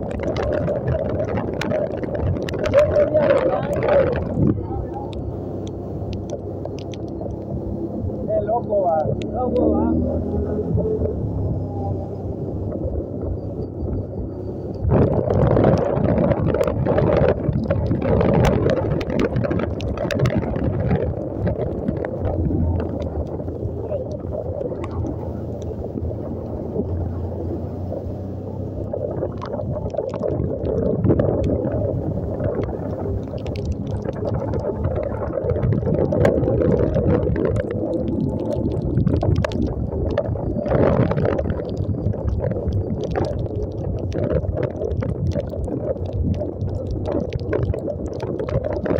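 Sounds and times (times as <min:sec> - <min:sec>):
motorcycle engine humming: 0:00.0 - 0:48.9
wind on microphone: 0:00.0 - 0:48.9.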